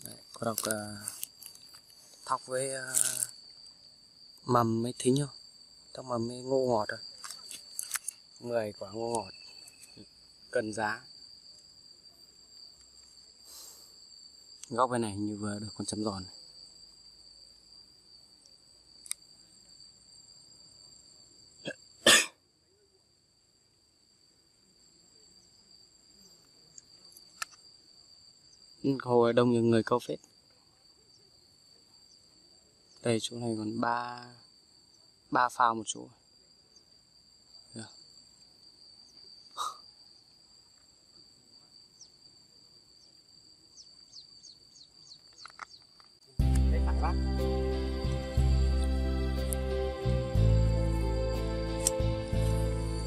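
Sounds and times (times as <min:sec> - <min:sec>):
insects singing: 0:00.0 - 0:53.0.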